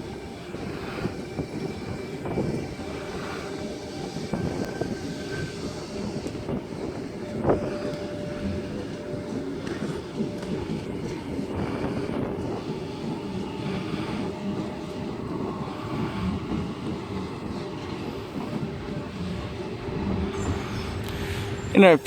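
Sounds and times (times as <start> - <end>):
train running on tracks: 0.0 - 22.0.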